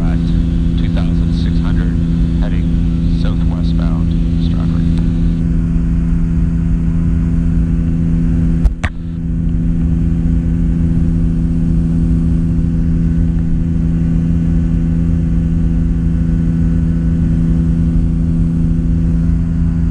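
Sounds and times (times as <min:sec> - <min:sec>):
light aircraft engine droning: 0:00.0 - 0:19.9.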